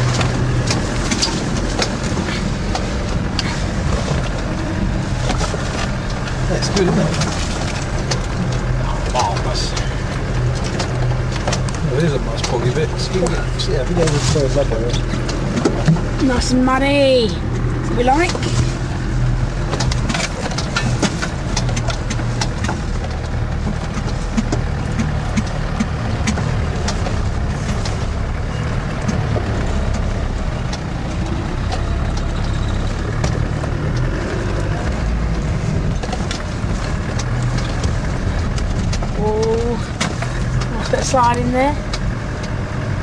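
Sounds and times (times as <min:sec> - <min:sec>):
sharp knocks and rattles: 0:00.0 - 0:16.6, 0:17.3 - 0:43.0
diesel engine running: 0:00.0 - 0:43.0.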